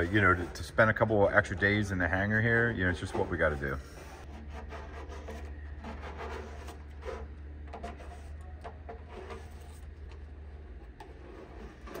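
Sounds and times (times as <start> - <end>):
hand tool scraping metal: 0.0 - 10.2
steady low hum: 0.0 - 12.0.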